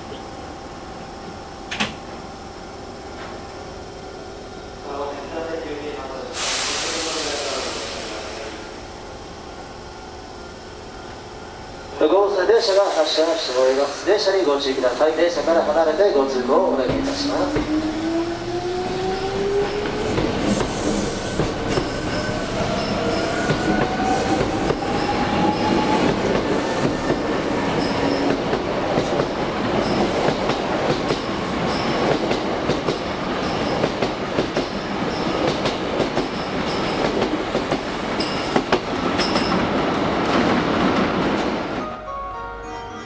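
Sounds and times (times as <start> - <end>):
train cars rumbling past: 2.4 - 42.0.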